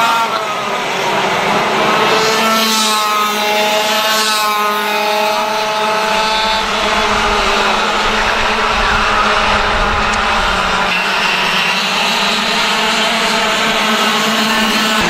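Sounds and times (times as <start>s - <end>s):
racing kart engines revving: 0.0s - 15.0s.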